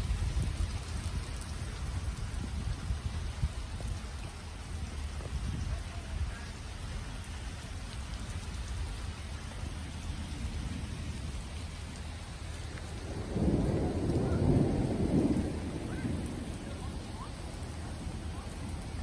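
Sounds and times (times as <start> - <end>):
rain falling through trees: 0.0 - 19.0
thunder rumbling: 0.0 - 19.0.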